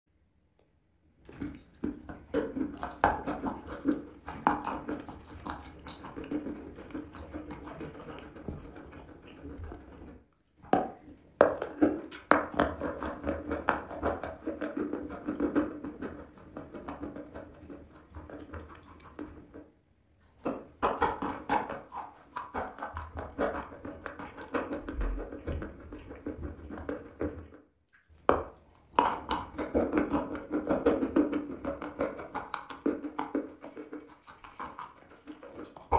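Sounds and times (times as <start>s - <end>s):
wet mouth smacking: 1.1s - 19.6s, 20.2s - 27.2s, 27.9s - 35.9s
chewing and crunching chalk: 1.2s - 19.6s, 20.2s - 27.5s, 28.1s - 35.9s.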